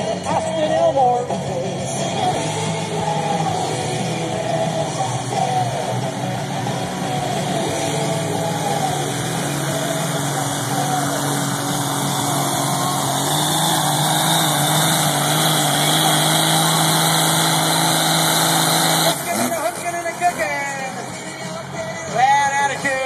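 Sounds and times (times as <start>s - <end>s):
diesel engine running hard: 0.0s - 23.0s.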